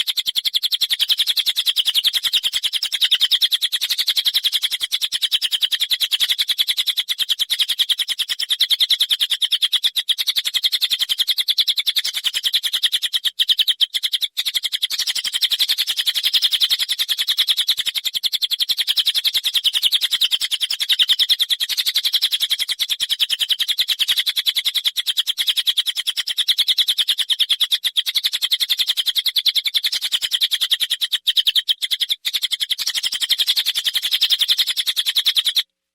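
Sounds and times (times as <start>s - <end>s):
songbird chattering trill: 0.0s - 35.6s.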